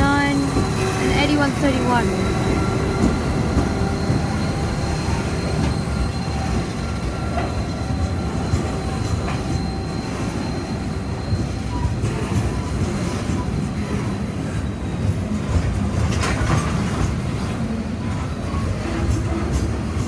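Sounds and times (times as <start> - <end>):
diesel locomotives rumbling past: 0.0 - 20.0
wheel squeal: 0.4 - 20.0.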